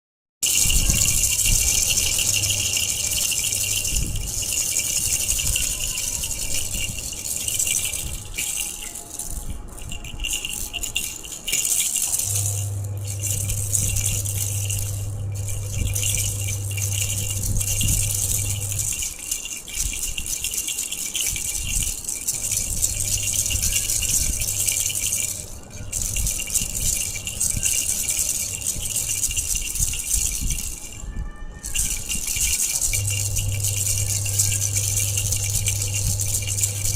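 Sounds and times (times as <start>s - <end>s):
baby rattle shaken: 0.4s - 36.9s.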